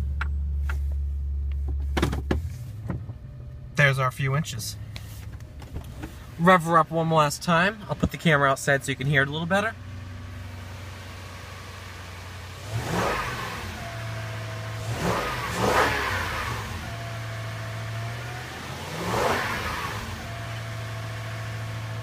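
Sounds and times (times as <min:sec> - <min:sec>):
truck engine idling and revving: 0:00.0 - 0:22.0.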